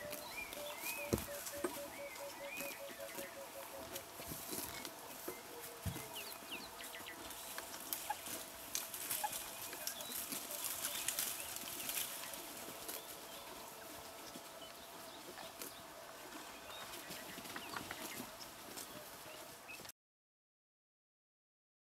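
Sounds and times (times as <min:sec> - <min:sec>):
rustling in dry grass: 0:00.0 - 0:19.9.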